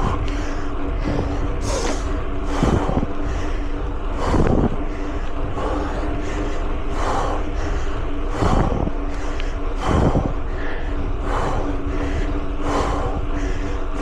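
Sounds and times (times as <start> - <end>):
bike rolling and wind noise: 0.0 - 14.0
faint hum: 0.0 - 14.0.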